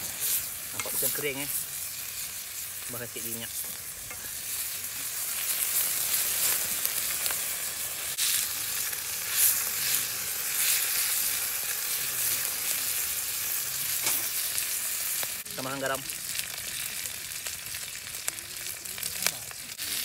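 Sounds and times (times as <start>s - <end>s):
chopsticks stirring frying food: 0.0s - 20.0s
meat sizzling in hot oil: 0.0s - 20.0s.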